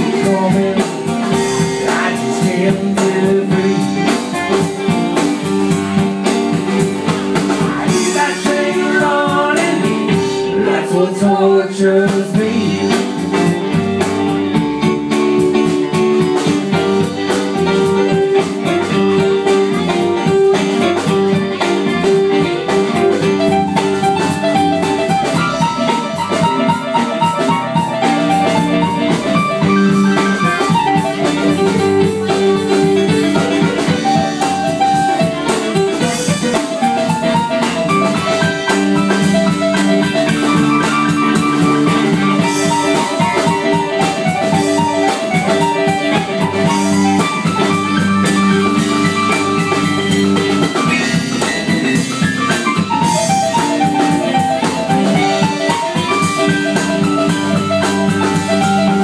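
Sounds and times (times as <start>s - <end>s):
steady drum beat: 0.0s - 11.2s, 12.0s - 59.0s
live band playing: 0.0s - 59.0s.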